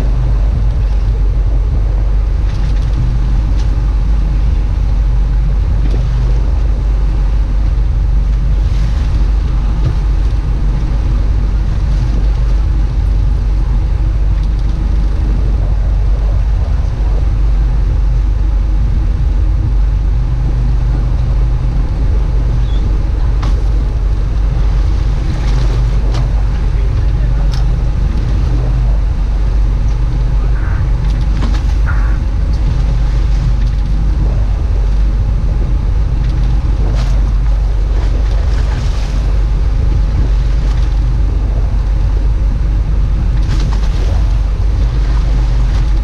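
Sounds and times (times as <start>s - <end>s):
boat engine droning: 0.0s - 46.0s
water noise: 0.0s - 46.0s
wind: 0.0s - 46.0s.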